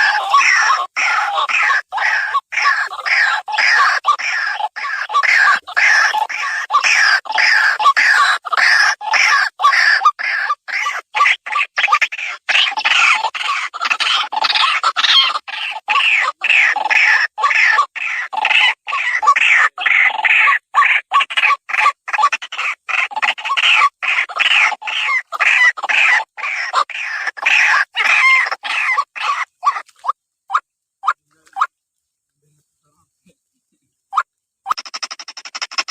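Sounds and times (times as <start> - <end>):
harsh rail bird calls: 0.0 - 31.7, 34.1 - 35.9.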